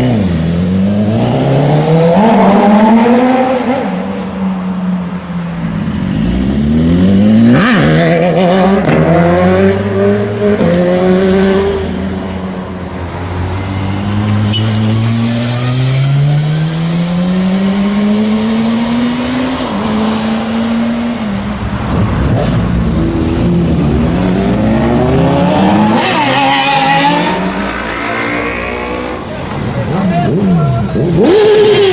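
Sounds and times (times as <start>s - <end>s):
motorcycle engines accelerating: 5.6s - 31.9s.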